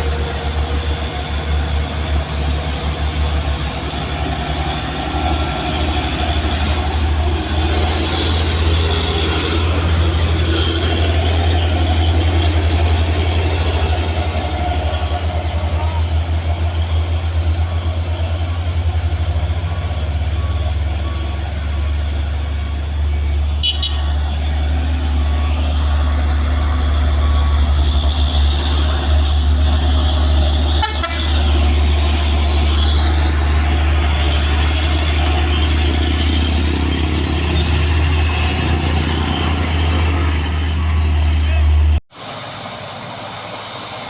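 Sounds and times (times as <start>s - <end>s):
road traffic: 0.0s - 44.0s
truck engine rumbling: 0.0s - 44.0s.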